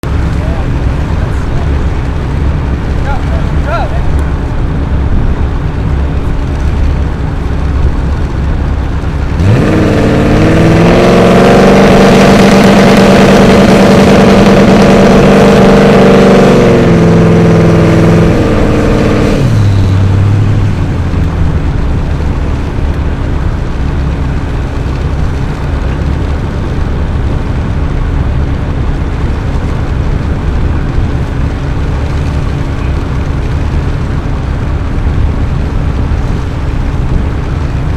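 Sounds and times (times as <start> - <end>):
car engine at full throttle: 0.0 - 37.9
low rumble of wind: 0.0 - 37.9.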